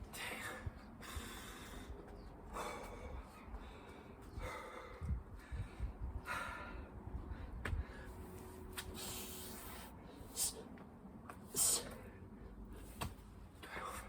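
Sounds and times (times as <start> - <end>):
man breathing hard: 0.0 - 10.8, 11.5 - 13.0.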